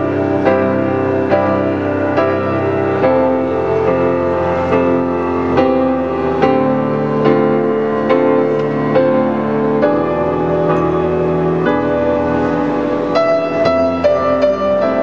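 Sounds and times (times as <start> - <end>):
piano and guitar ballad: 0.0 - 15.0.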